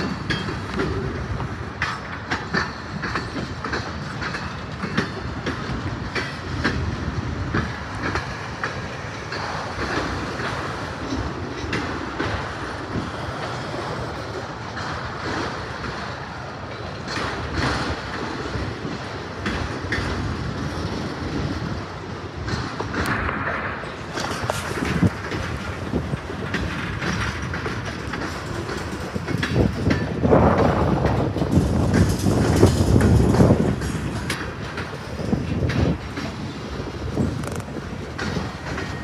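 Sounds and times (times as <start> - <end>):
freight train rolling past: 0.0 - 39.0
steel wheels rumbling on rail: 0.0 - 39.0
train clicks and clanks: 0.0 - 39.0.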